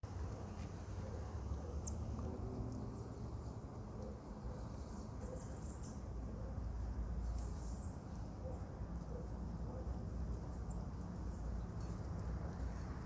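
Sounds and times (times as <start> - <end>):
marmosets chirping: 1.1 - 12.0.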